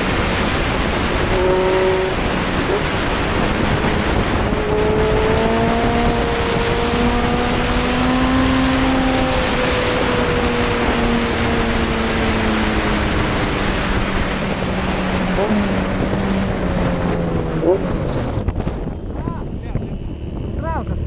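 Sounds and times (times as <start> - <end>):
motorcycle engine running: 0.0 - 21.0
wind rushing on microphone: 0.0 - 21.0.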